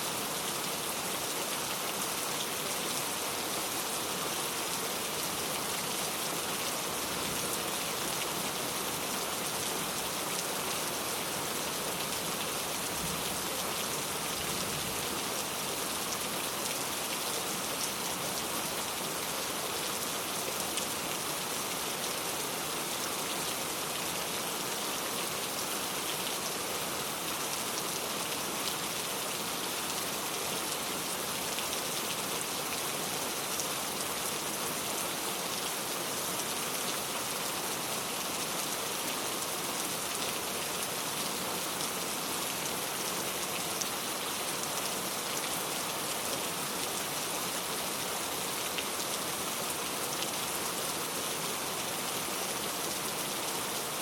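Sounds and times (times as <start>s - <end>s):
rain pattering on a surface: 0.2s - 54.0s.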